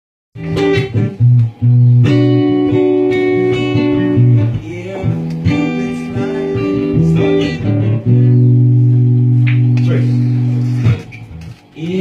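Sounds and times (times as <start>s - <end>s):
bass guitar: 0.4s - 12.0s
guitar playing held chords: 0.4s - 12.0s.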